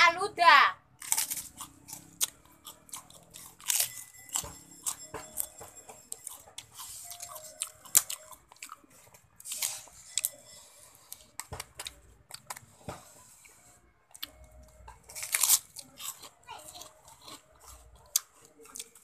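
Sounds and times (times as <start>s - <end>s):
person chewing food: 1.0s - 19.0s.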